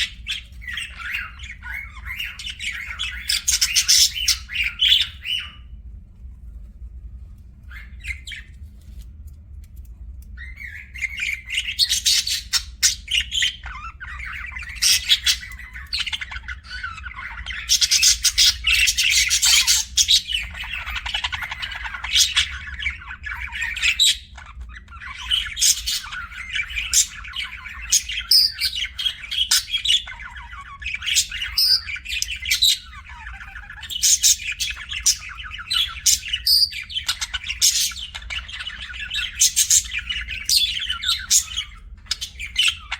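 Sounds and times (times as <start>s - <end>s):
budgerigar chirping and warbling: 0.0s - 5.6s, 7.7s - 8.5s, 10.4s - 42.9s
faint low hum: 0.0s - 42.9s.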